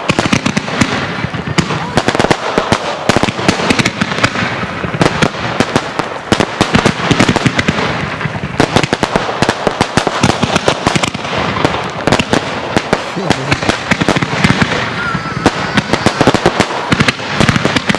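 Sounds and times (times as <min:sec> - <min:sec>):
fireworks hiss: 0:00.0 - 0:17.9
fireworks pops and bangs: 0:00.0 - 0:17.9.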